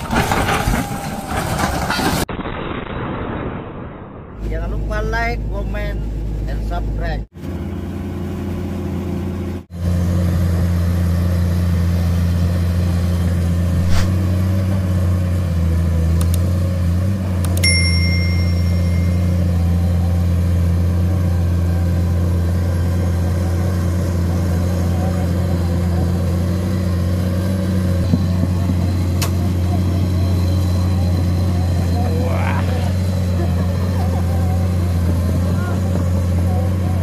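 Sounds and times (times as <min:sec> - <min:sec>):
excavator diesel engine drone: 0:04.7 - 0:37.0.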